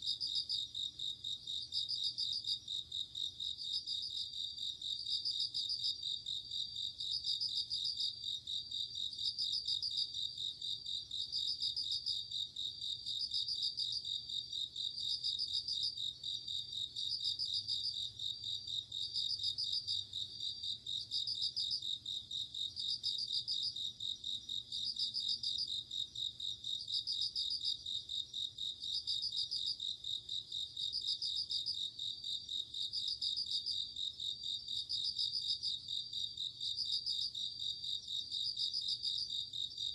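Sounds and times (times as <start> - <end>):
pulsed cricket chirp: 0.0 - 39.9.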